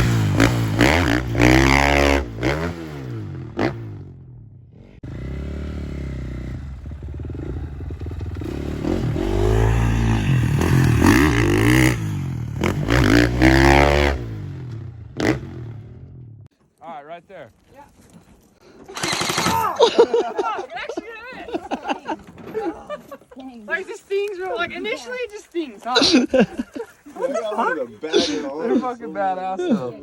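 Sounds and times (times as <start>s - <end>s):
dirt bike engines revving: 0.0s - 16.3s, 18.6s - 30.0s.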